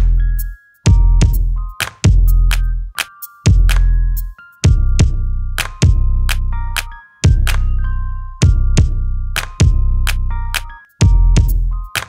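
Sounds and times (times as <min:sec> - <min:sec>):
deep bass notes: 0:00.0 - 0:02.9, 0:03.5 - 0:11.8
drum machine beat: 0:00.0 - 0:07.7, 0:08.4 - 0:10.2, 0:11.0 - 0:12.0
high synth melody: 0:00.0 - 0:12.0.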